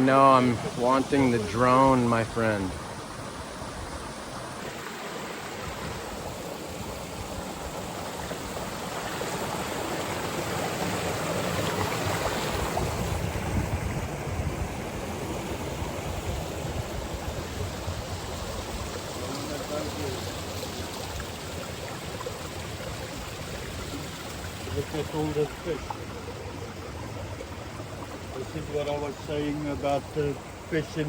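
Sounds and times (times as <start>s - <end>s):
mountain stream and small waterfalls: 0.0s - 31.0s.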